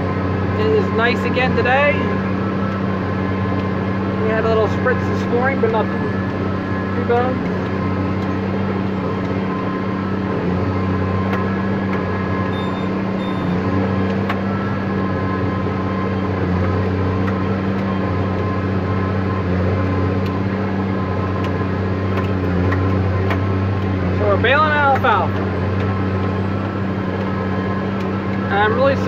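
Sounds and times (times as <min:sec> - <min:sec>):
tractor engine drone from cab: 0:00.0 - 0:29.0.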